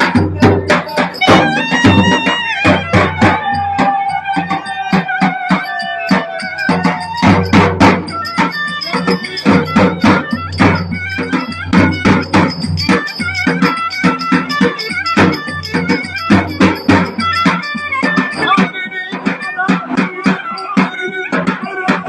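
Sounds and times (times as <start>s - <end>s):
quick drum beat: 0.0s - 22.0s
string melody: 0.0s - 22.0s.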